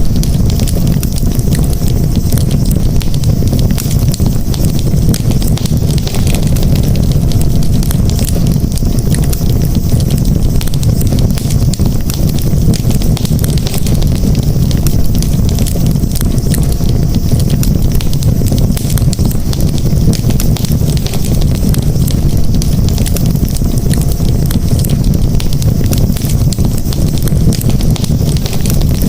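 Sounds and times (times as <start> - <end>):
burning wood crackling: 0.0 - 29.0
campfire low rumble: 0.0 - 29.0.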